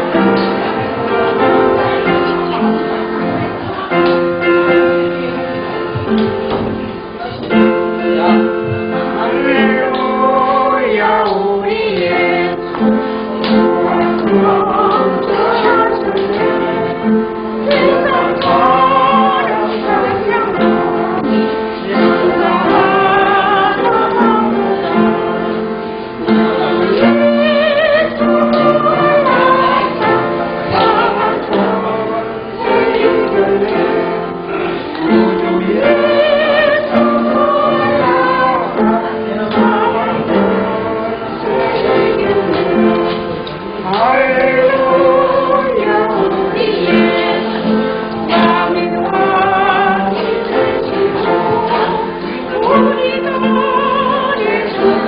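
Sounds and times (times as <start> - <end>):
voices singing a praise song: 0.0 - 6.4, 7.6 - 55.0
keyboard holding chords: 0.0 - 55.0.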